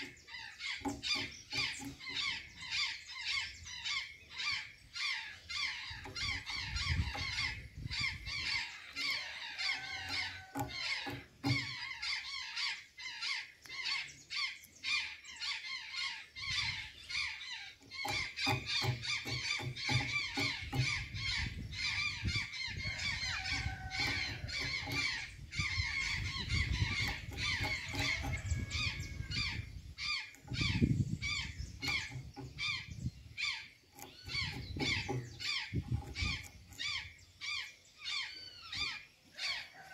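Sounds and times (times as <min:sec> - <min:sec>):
jays calling: 0:00.0 - 0:39.9.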